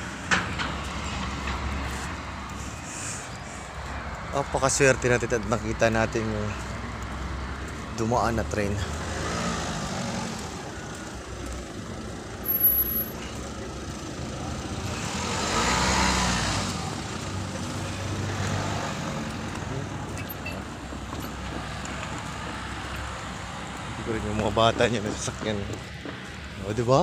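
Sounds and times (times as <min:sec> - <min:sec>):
cars driving past: 0:00.0 - 0:27.0.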